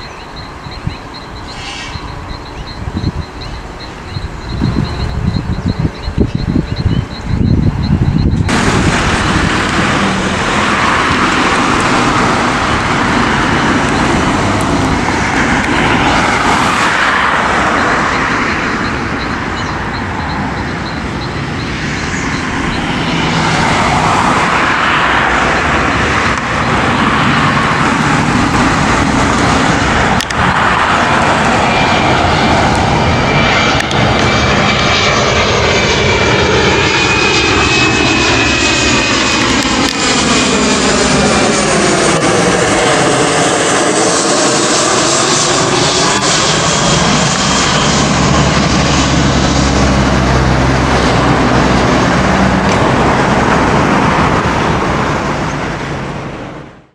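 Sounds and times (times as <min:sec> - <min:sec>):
high fan whine: 0:00.0 - 0:56.9
jet engine roar: 0:00.0 - 0:56.9
sweeping phasing sound: 0:07.3 - 0:56.2.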